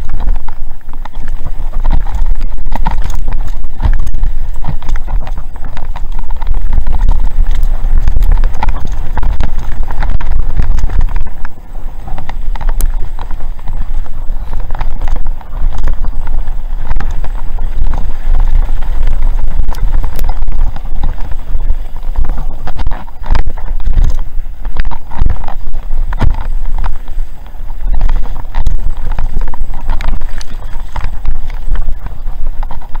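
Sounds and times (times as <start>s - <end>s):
bike rattling over rocks: 0.0s - 33.0s
wind buffeting microphone: 0.0s - 33.0s.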